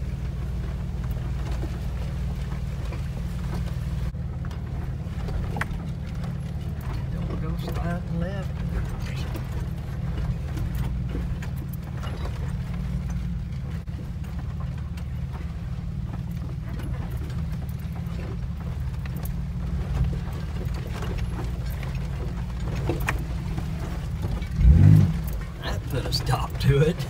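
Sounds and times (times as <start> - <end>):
engine and drivetrain rumble: 0.0 - 27.0
knocks and rattles over bumps: 0.0 - 27.0.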